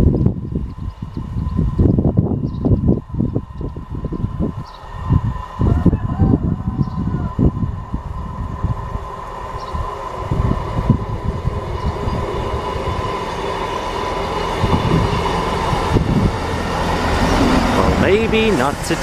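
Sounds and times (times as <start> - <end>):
diesel train engine rumble: 0.0 - 19.0.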